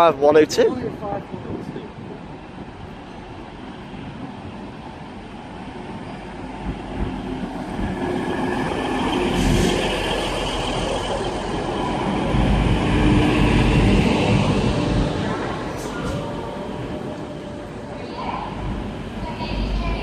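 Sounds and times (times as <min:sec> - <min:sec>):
diesel train arriving: 0:00.9 - 0:20.0.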